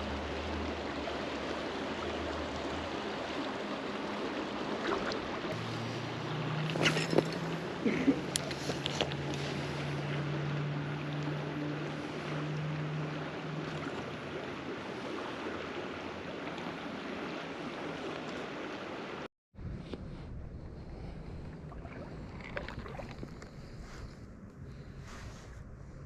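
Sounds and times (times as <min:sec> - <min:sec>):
low steady hum: 0:00.0 - 0:17.8, 0:19.6 - 0:26.0
creek water running: 0:00.0 - 0:19.3, 0:21.4 - 0:23.6.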